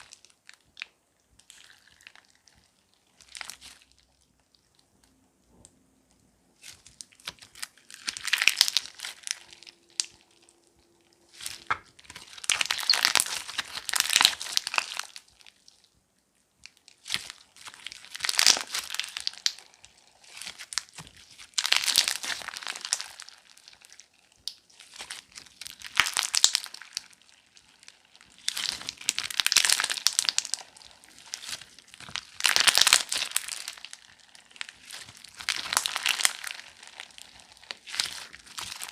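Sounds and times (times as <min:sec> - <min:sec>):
crunchy slime crackling: 0:00.0 - 0:05.2, 0:06.5 - 0:16.0, 0:16.6 - 0:38.9.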